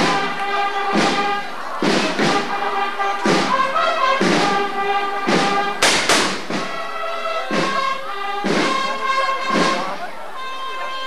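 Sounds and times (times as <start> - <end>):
drum beat: 0.0 - 9.9
brass band playing held chords: 0.0 - 11.0.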